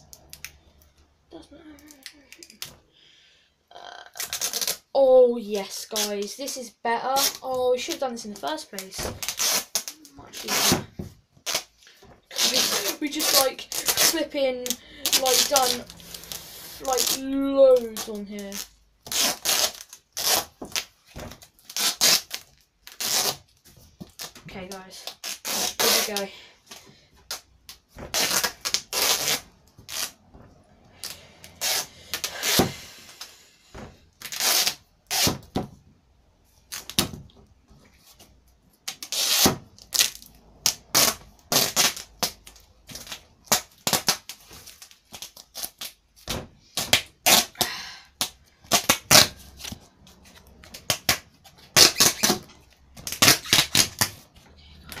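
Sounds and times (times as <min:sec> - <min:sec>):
duct tape ripping off roll: 0:00.0 - 0:00.9, 0:04.0 - 0:05.0, 0:05.8 - 0:06.2, 0:07.1 - 0:08.1, 0:08.8 - 0:35.7, 0:36.6 - 0:37.3, 0:38.8 - 0:54.3.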